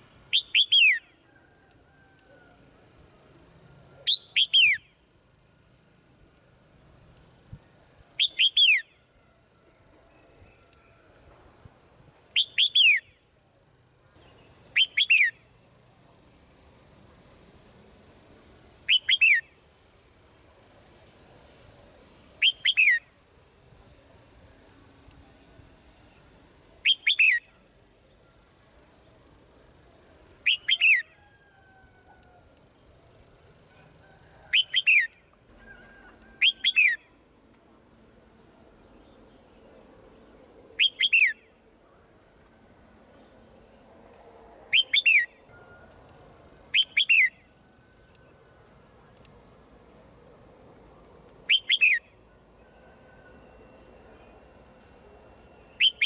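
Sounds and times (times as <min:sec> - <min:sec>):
steady high-pitched hiss: 0:00.0 - 0:56.0.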